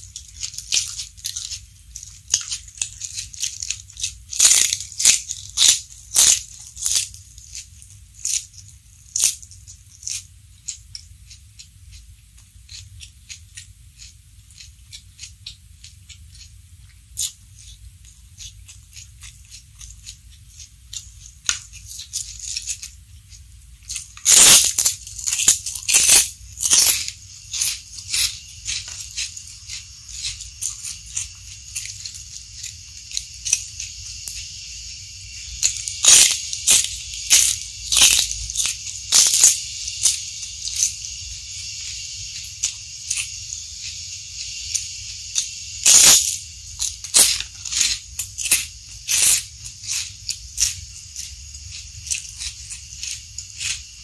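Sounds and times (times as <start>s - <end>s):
chewing: 0.0s - 46.2s
crunching bites: 0.0s - 54.0s
steady hiss: 0.0s - 54.0s.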